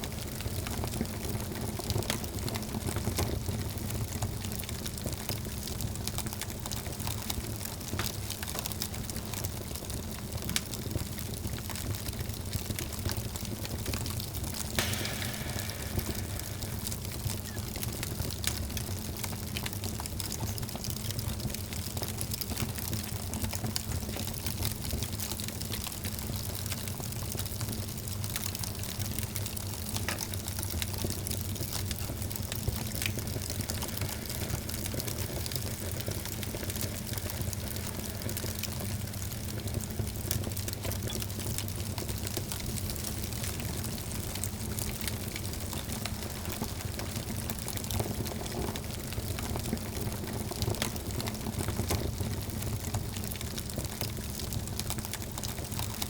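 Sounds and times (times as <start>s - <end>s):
low rumble of fire: 0.0s - 56.0s
wood fire crackling and popping: 0.1s - 56.0s.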